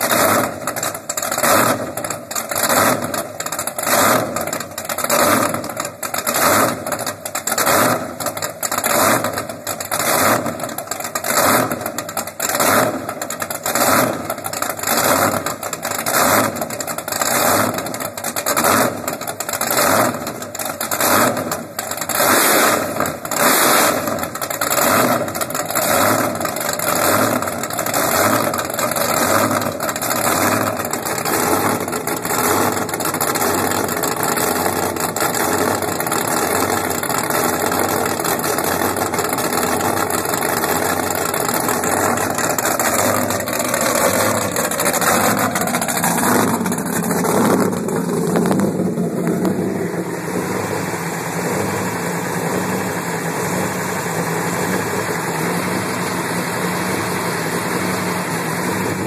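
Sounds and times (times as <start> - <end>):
boat engines idling lumpy: 0.0 - 59.0.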